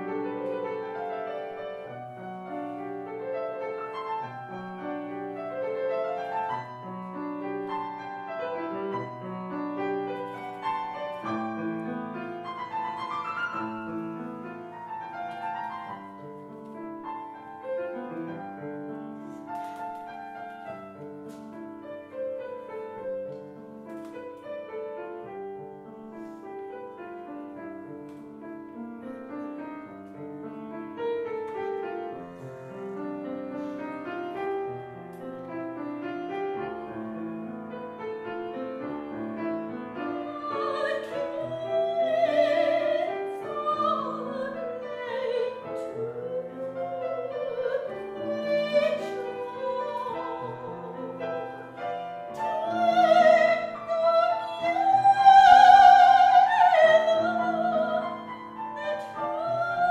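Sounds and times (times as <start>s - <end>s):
grand piano chords: 0.0s - 59.9s.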